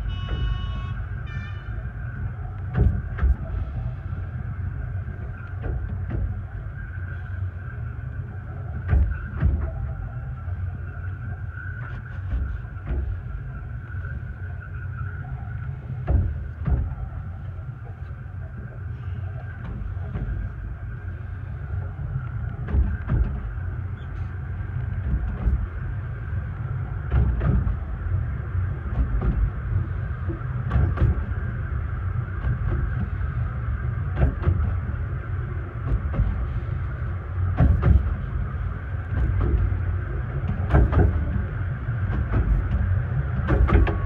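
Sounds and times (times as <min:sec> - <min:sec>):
knocks and clatter on track: 0:00.0 - 0:44.0
railway carriage rumbling: 0:00.0 - 0:44.0.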